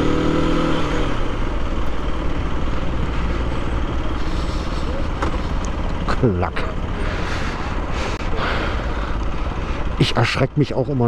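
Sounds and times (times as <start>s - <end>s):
motorcycle engine at low revs: 0.0s - 10.1s.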